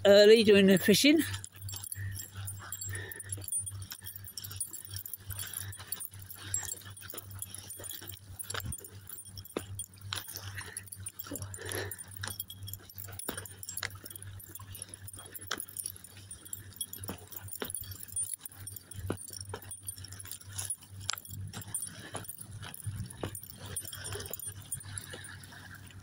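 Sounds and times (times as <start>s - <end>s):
faint low hum: 1.2s - 26.0s.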